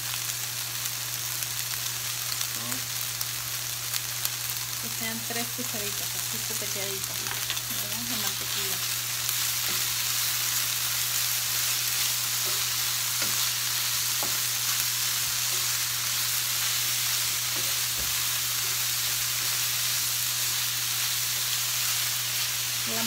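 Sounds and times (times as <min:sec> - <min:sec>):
chicken sizzling in a frying pan: 0:00.0 - 0:23.0.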